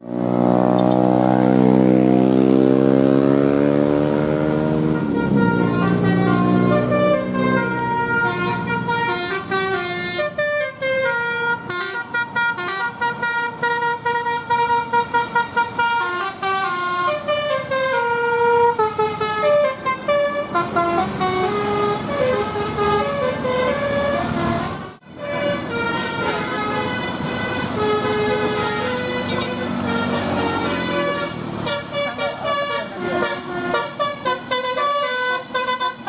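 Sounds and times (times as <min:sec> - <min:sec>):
multi-tone bus horn melody: 0:00.0 - 0:36.0.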